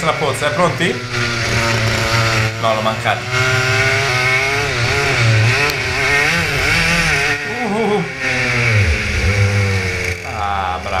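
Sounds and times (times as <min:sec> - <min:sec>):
kart engine revving: 0:00.0 - 0:11.0.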